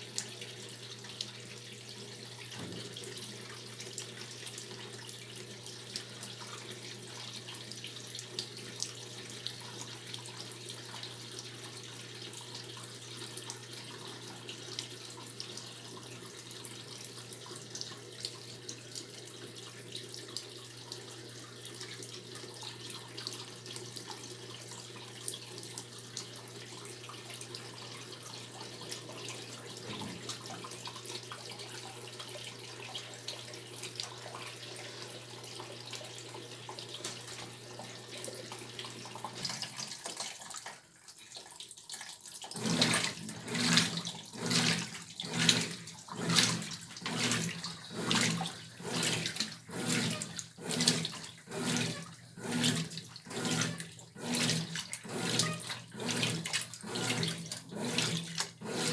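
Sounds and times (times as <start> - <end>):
washing machine agitator sloshing: 0.0 - 58.9
water running into washing machine: 0.0 - 58.9.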